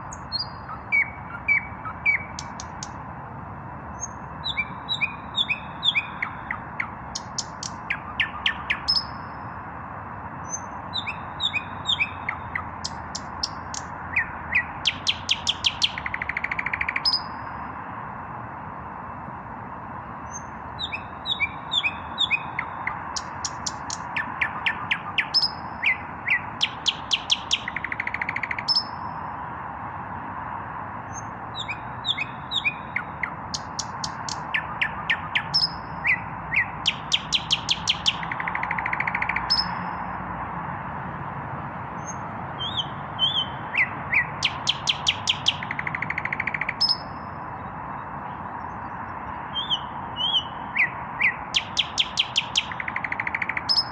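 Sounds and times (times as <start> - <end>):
nightingale singing: 0.0 - 3.0, 3.9 - 9.6, 10.4 - 17.6, 20.2 - 29.2, 31.1 - 40.2, 42.0 - 53.9.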